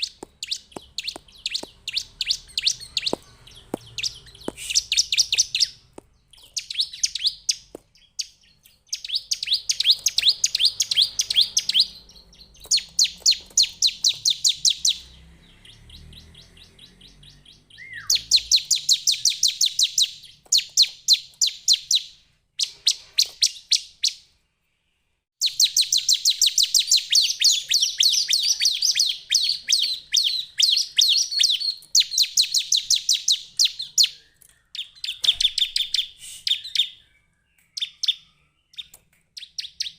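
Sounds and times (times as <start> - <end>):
bird singing rapid sharp chirps: 0.0 - 24.4, 25.4 - 39.9.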